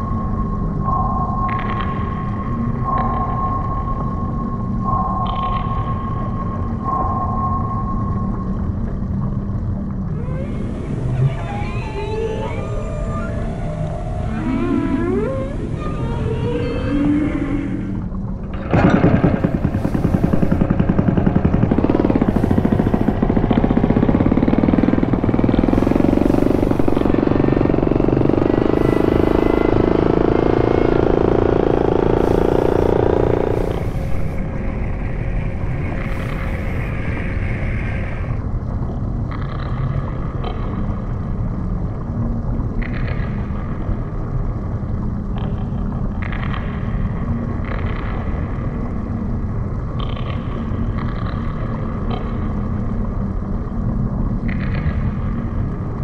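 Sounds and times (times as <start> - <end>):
low engine-like rumble: 6.7 - 56.0.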